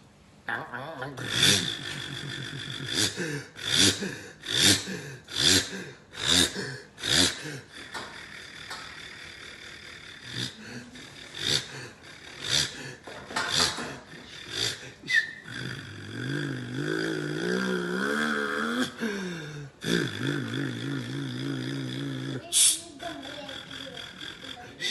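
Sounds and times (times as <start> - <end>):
man imitating bus engine: 1.2 - 24.9.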